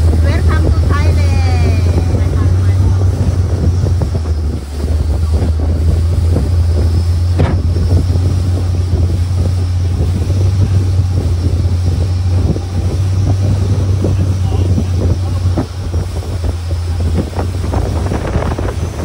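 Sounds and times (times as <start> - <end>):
boat engine droning: 0.0 - 19.0
water rushing past hull: 0.0 - 19.0
wind buffeting microphone: 0.0 - 19.0.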